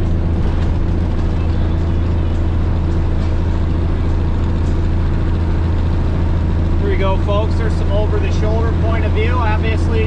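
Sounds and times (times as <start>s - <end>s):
truck diesel engine droning: 0.0s - 10.0s.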